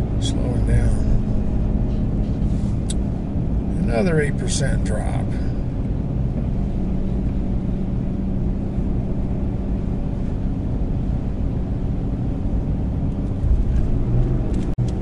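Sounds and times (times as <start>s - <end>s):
diesel truck engine with exhaust brake: 0.0s - 15.0s.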